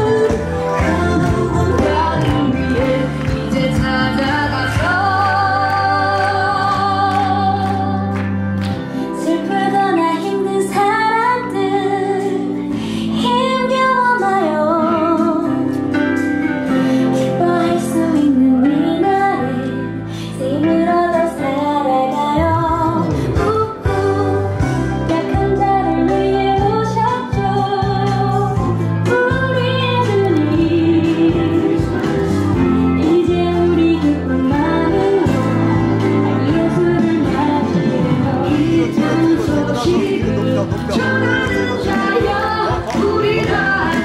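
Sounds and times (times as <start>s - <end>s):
woman singing: 0.0s - 8.2s, 9.0s - 44.0s.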